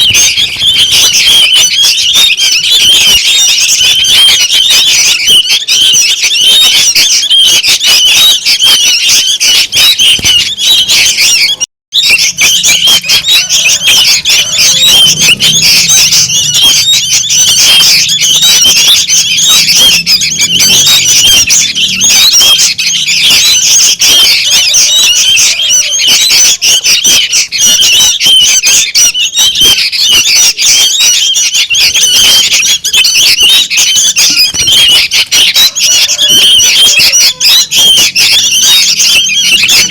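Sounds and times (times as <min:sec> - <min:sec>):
young bulbuls chattering: 0:00.0 - 0:39.9.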